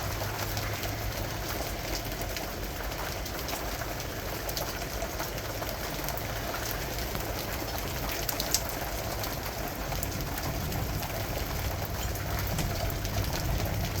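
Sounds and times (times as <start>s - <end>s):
raindrops ticking: 0.0s - 14.0s
steady rain: 0.0s - 14.0s.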